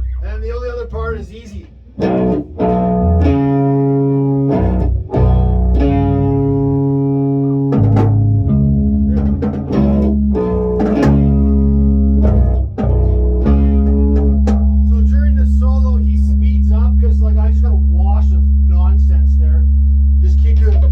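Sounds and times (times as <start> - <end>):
guitar playing sustained chords: 2.0 - 20.8.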